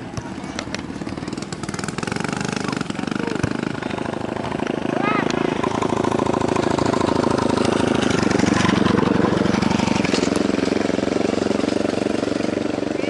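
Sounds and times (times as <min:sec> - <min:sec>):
small engine running: 0:00.4 - 0:13.0.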